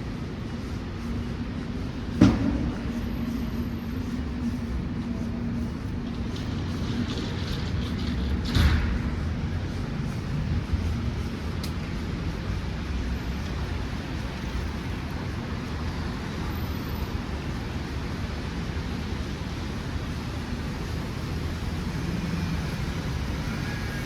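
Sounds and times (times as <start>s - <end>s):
low rumble of street traffic: 0.0s - 24.0s.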